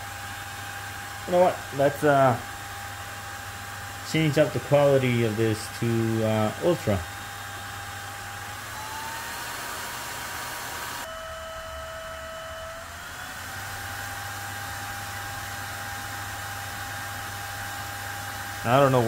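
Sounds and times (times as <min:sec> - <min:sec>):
blower fan whirring and whining: 0:00.0 - 0:19.0.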